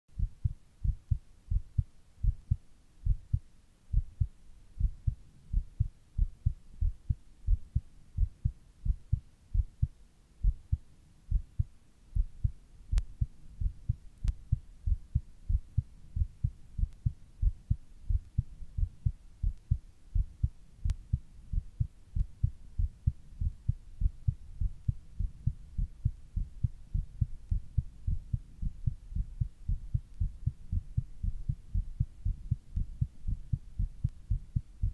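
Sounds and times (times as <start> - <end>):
fast heartbeat thumps: 0.2 - 34.9.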